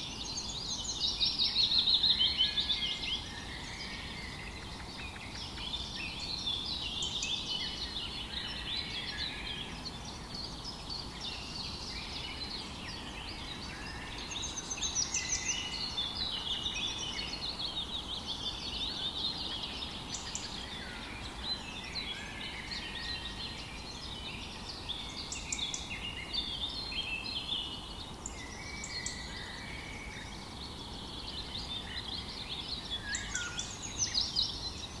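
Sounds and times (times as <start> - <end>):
finches chirping: 0.0 - 35.0.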